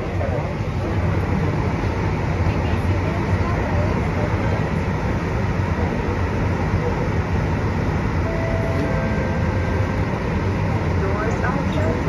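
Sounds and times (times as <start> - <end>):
metro car equipment hum: 0.0 - 12.0.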